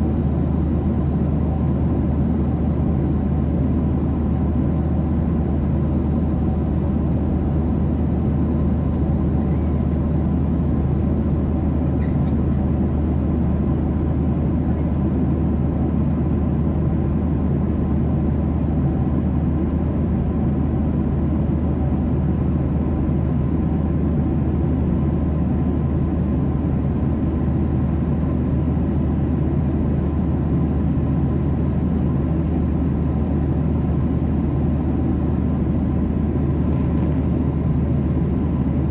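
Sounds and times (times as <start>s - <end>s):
jet cabin engine drone: 0.0s - 38.9s.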